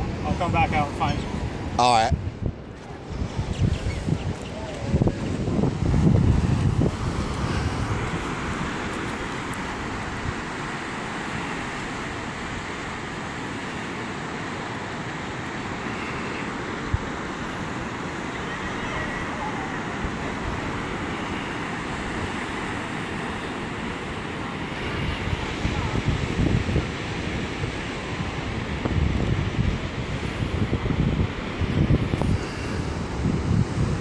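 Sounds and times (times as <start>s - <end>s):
ocean surf hissing: 0.0s - 34.0s
wind buffeting microphone: 0.0s - 34.0s.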